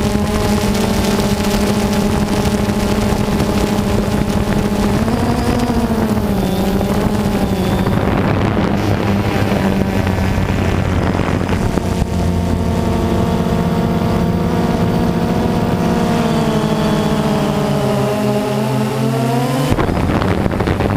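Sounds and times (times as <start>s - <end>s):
jet ski engine running: 0.0s - 20.9s.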